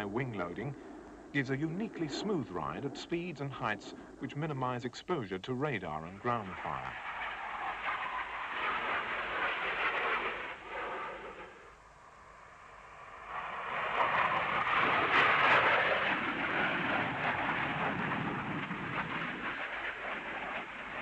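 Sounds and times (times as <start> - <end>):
jet roaring past: 0.0 - 4.6, 5.9 - 21.0.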